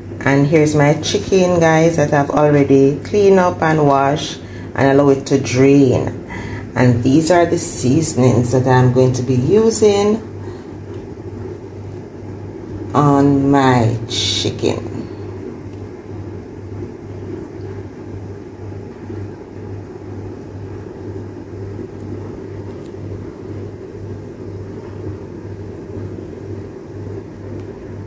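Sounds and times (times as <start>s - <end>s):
mechanical hum and rumble: 0.0s - 28.0s.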